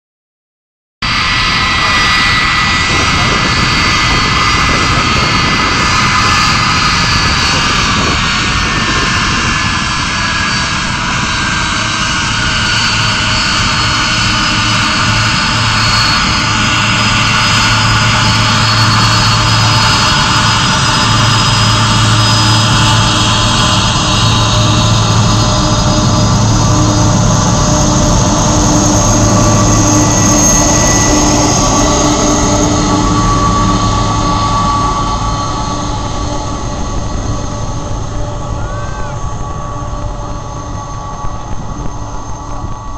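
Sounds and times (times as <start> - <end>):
jet roar and whine: 1.0 - 42.9.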